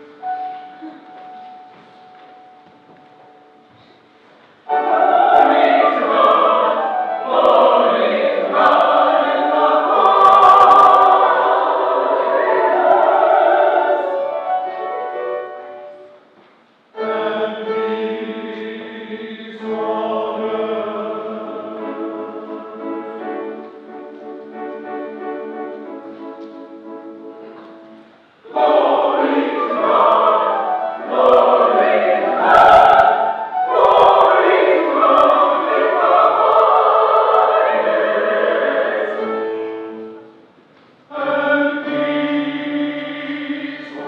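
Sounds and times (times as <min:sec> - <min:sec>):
choir singing with accompaniment: 0:03.4 - 0:44.0.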